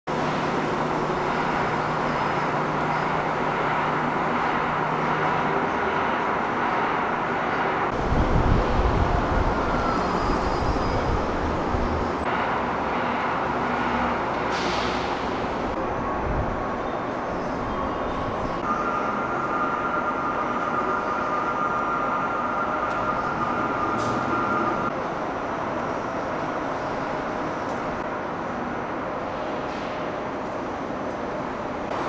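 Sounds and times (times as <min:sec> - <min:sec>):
vehicle and street noise: 0:00.1 - 0:32.0.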